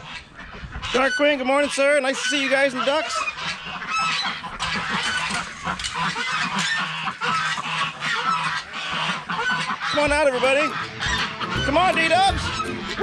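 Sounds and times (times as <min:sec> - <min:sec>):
chickens clucking: 0:00.0 - 0:13.0
ducks honking: 0:00.0 - 0:13.0.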